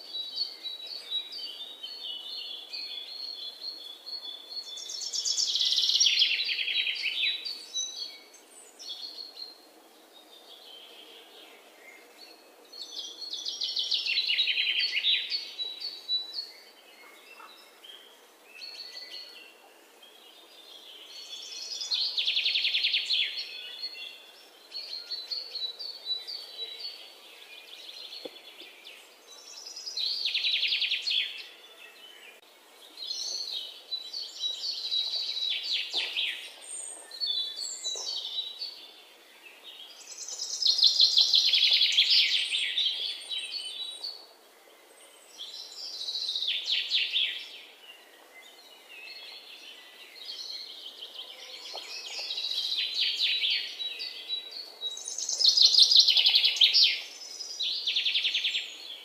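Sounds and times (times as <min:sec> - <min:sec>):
quiet bird chirps: 0:00.0 - 0:59.0.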